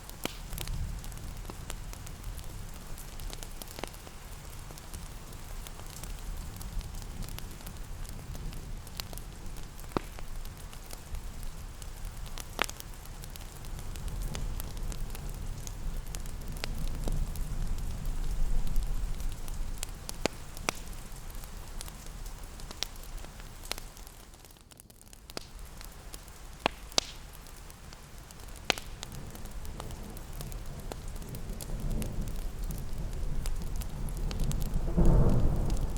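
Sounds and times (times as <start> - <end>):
rain hiss: 0.0 - 35.9
wood fire crackling: 0.0 - 35.9.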